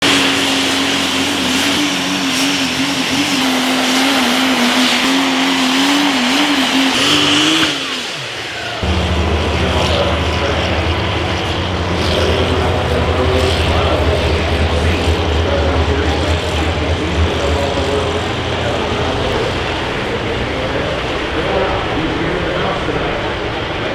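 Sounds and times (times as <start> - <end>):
deep diesel rumble: 0.0 - 23.9
diesel truck engine revving high: 0.0 - 23.9.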